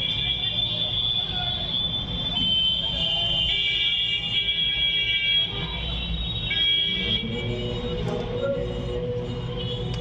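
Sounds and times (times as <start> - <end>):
traffic engines rumbling: 0.0 - 10.0
high-pitched car horns: 1.1 - 10.0.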